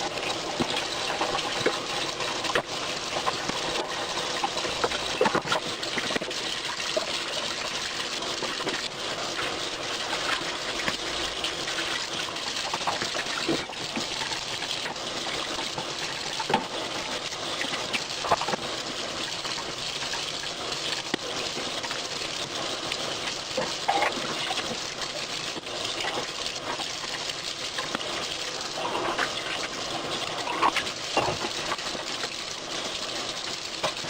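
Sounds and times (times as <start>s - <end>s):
tap water running into sink: 0.0s - 34.0s.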